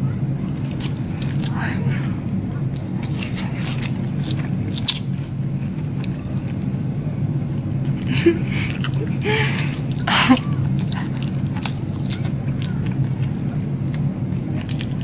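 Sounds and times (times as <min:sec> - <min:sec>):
steady low hum: 0:00.0 - 0:15.0
person chewing: 0:00.5 - 0:01.9, 0:02.7 - 0:06.6, 0:07.8 - 0:15.0.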